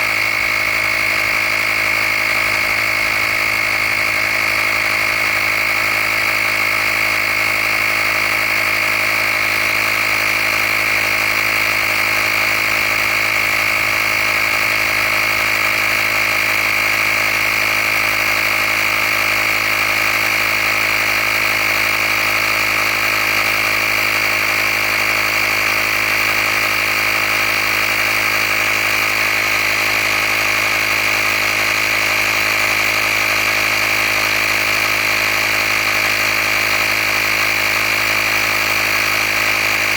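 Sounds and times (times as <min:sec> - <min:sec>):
air compressor pumping tire: 0:00.0 - 0:39.9.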